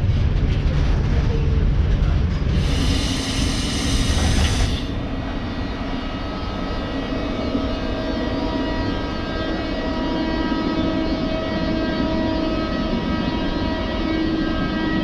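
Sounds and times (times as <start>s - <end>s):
train heavy low rumble: 0.0s - 15.0s
locomotive electrical whine: 2.5s - 15.0s.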